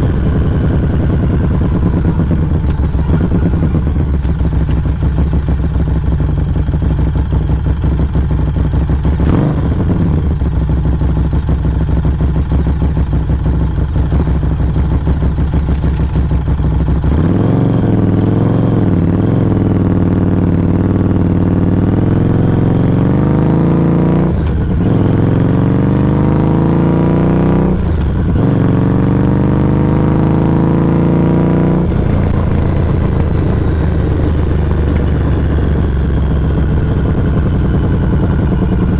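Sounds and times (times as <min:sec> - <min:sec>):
motorcycle engine exhaust: 0:00.0 - 0:38.9.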